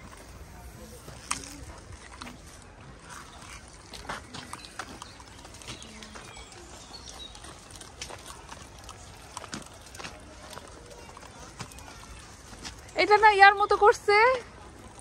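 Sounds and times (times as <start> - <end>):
footsteps on dirt path: 0.0 - 14.9.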